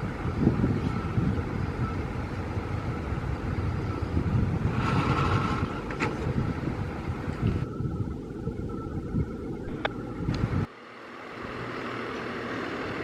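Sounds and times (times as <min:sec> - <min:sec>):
engine running low rumble: 0:00.0 - 0:13.0.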